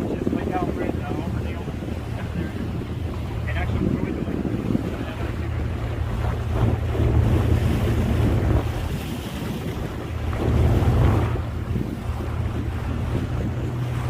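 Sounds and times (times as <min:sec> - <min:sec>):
low rumble of boat and water: 0:00.0 - 0:14.0
wind buffeting microphone: 0:00.0 - 0:14.0.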